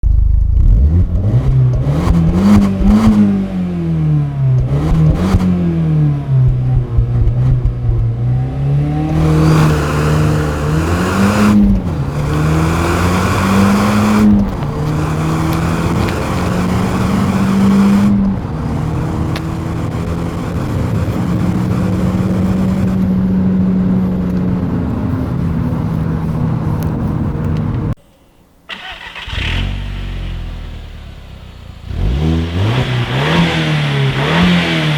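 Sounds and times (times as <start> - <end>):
car engine revving: 0.0 - 28.0, 28.7 - 34.9.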